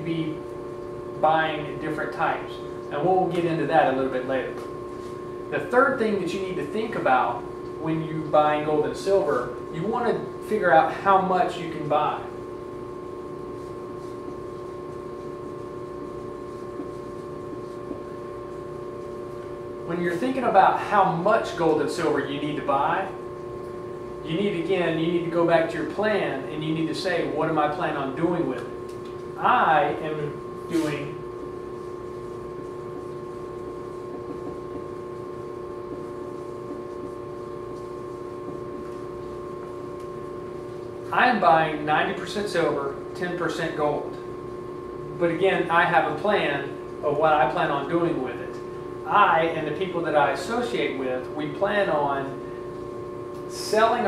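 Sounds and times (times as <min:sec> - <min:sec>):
ventilation hum: 0:00.0 - 0:54.0.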